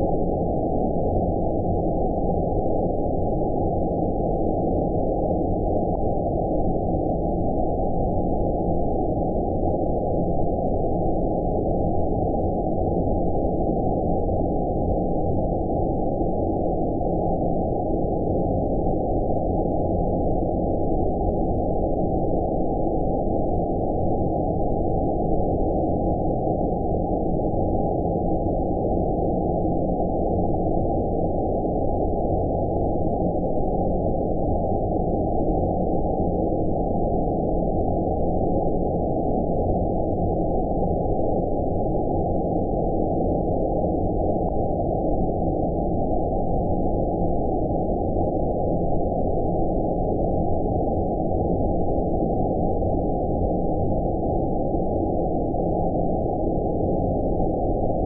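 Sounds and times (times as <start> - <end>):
muffled filtered white noise: 0.0 - 58.0.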